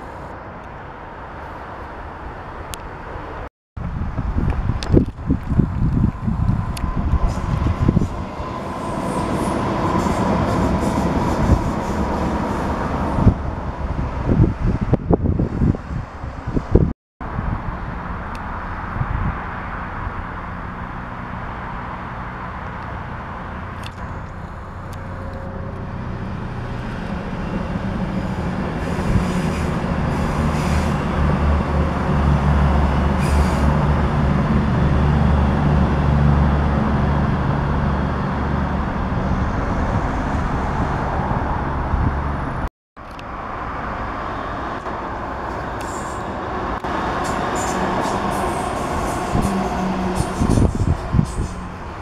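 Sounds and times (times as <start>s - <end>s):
diesel train passing: 0.0s - 52.0s
electric train running past: 5.3s - 16.6s, 17.6s - 42.6s, 43.4s - 52.0s.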